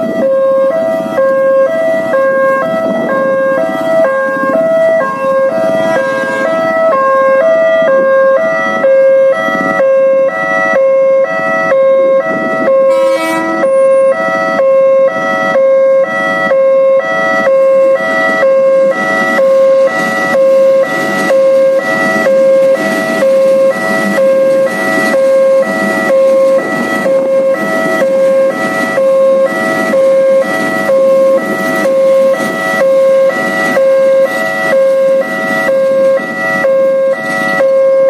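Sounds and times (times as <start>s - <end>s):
level crossing two-tone alarm: 0.0s - 38.0s.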